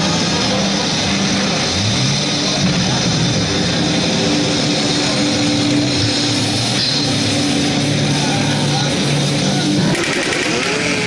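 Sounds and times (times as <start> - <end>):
steady roaring noise: 0.0 - 11.0.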